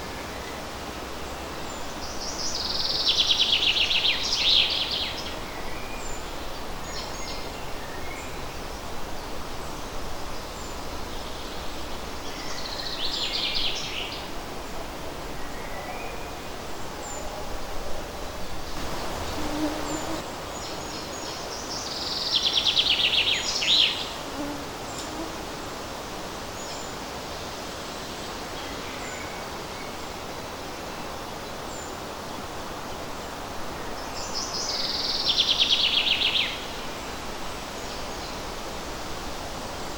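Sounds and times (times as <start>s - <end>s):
wind in leaves: 0.0s - 39.9s.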